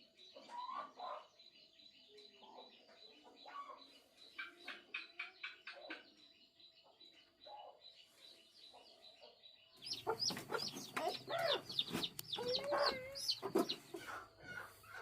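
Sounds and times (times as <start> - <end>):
chickens clucking and squawking: 0.0 - 1.4, 2.3 - 15.0.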